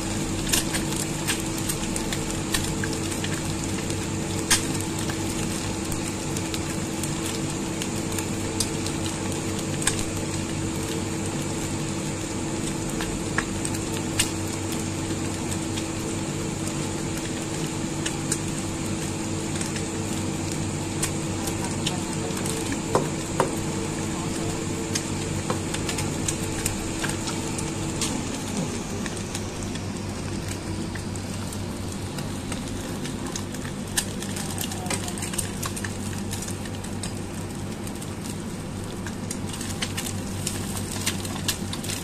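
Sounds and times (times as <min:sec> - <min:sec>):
eggs sizzling in oil: 0:00.0 - 0:42.0.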